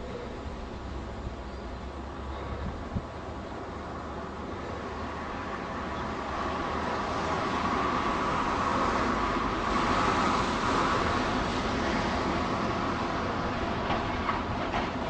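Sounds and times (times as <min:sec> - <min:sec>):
electric tram running: 0:00.0 - 0:15.0
tram whine: 0:00.0 - 0:15.0.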